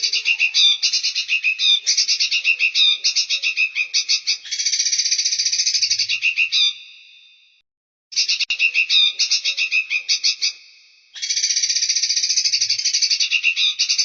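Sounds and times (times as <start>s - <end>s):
songbird trilling: 0.0s - 6.9s, 8.2s - 10.6s, 11.2s - 14.0s.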